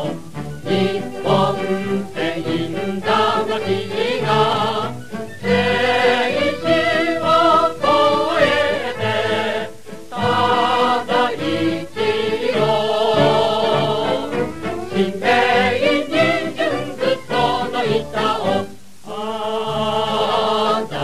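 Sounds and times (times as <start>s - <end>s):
chorus singing a march: 0.0s - 21.0s.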